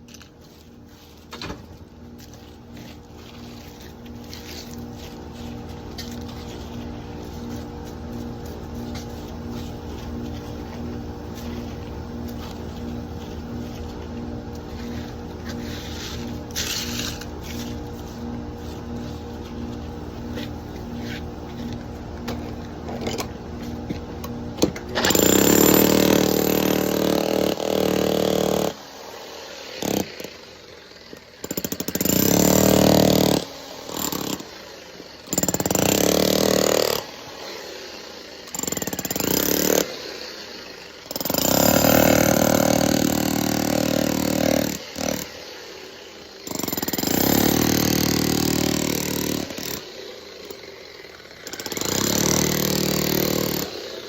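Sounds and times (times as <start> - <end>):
power tool chipping concrete: 2.2 - 54.0.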